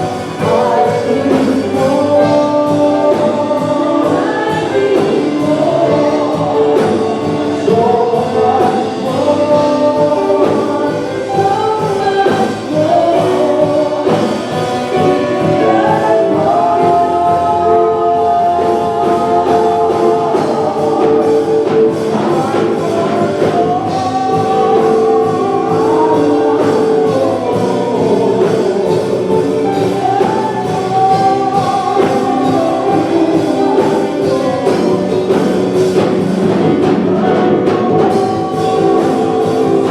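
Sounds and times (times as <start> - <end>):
band accompaniment: 0.0 - 39.9
gospel choir singing: 0.0 - 39.9
steady drum beat: 0.0 - 39.9.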